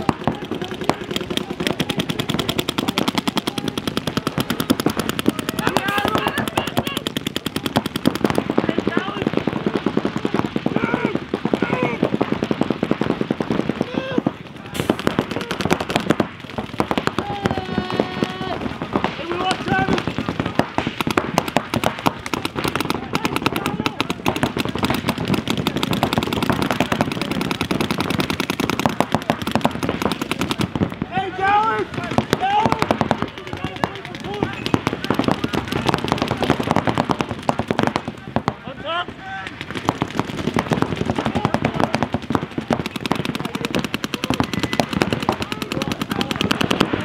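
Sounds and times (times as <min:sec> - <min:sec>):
paintball markers firing: 0:00.0 - 0:47.0.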